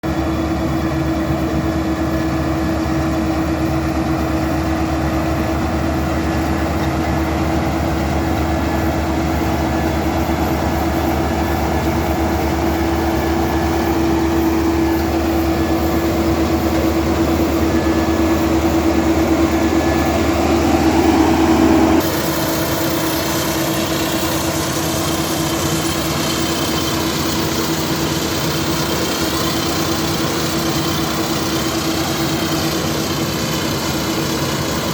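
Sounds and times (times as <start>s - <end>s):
combine harvester engine droning: 0.0s - 34.9s.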